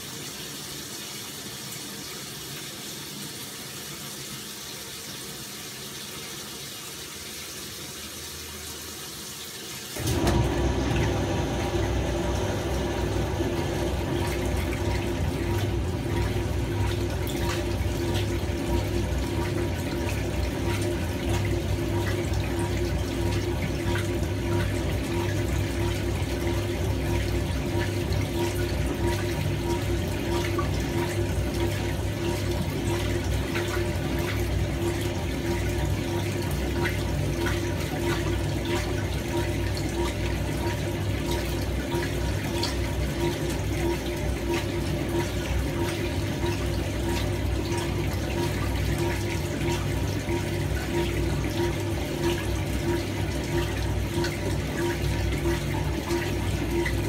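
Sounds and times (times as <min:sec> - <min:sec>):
washing machine motor hum: 0:00.0 - 0:57.0
water sloshing in tub: 0:00.0 - 0:57.0.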